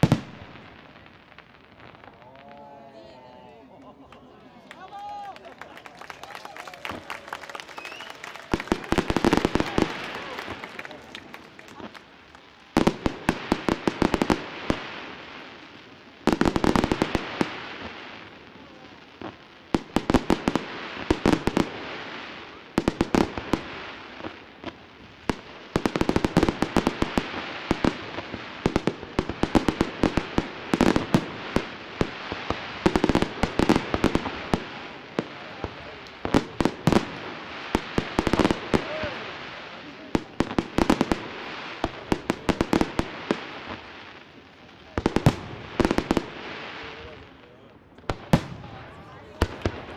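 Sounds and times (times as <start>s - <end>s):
fireworks popping and banging: 0.0s - 2.3s, 4.7s - 49.9s
fireworks crackling: 0.0s - 3.2s, 3.8s - 49.9s.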